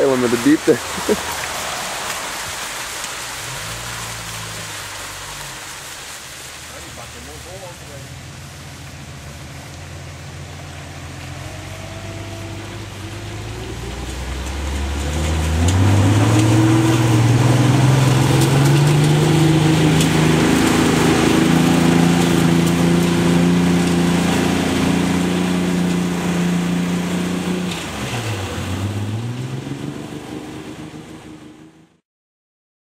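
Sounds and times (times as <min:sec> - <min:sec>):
engine revving: 0:00.0 - 0:05.9, 0:06.7 - 0:32.0.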